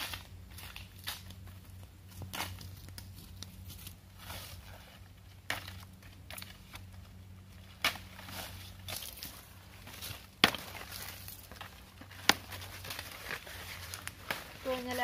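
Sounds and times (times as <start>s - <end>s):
dry leaves crunching underfoot: 0.0s - 15.0s.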